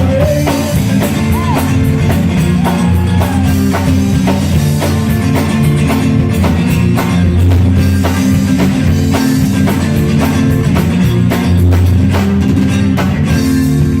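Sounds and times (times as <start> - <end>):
band playing a song: 0.0 - 14.0
drum kit beat: 0.0 - 14.0.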